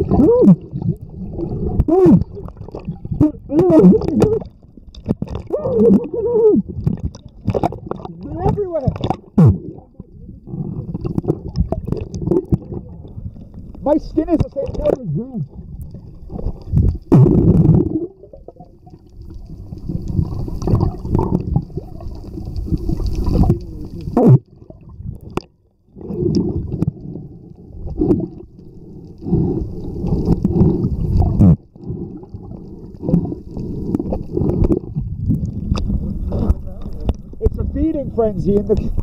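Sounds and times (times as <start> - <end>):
gurgling bubbles: 0.0 - 37.8
underwater water churning: 0.0 - 39.0.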